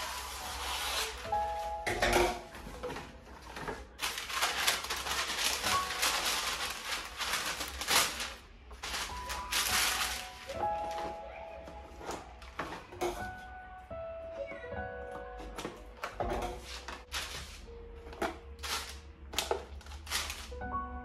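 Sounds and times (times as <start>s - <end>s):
baking paper rustling: 0.0s - 13.5s, 15.4s - 20.7s.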